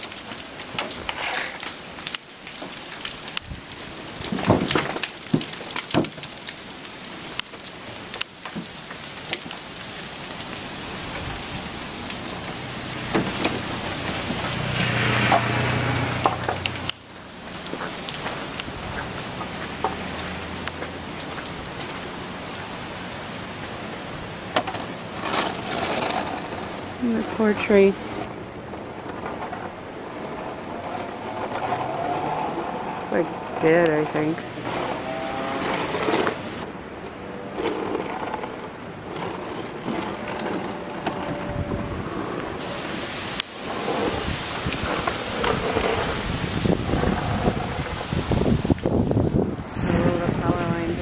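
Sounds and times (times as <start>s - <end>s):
water dripping from trees: 0.0s - 25.2s, 26.6s - 35.7s, 38.4s - 51.0s.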